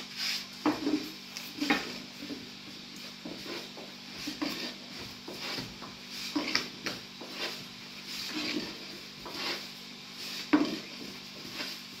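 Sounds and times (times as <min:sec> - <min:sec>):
hands working dough in metal basin: 0:00.0 - 0:12.0.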